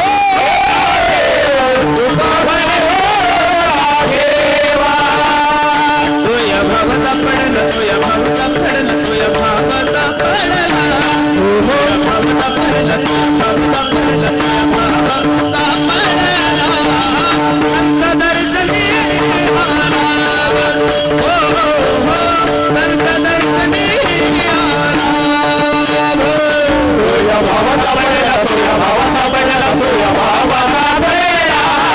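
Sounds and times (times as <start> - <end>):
person singing: 0.0 - 31.9
rattling percussion beats: 0.0 - 31.9.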